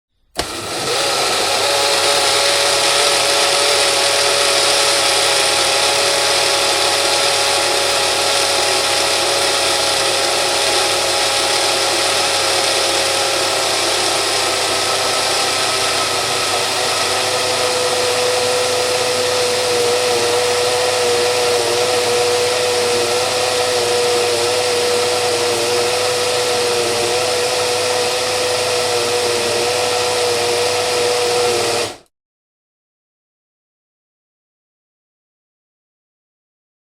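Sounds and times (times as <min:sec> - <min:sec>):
blender motor whining: 0:00.2 - 0:32.1.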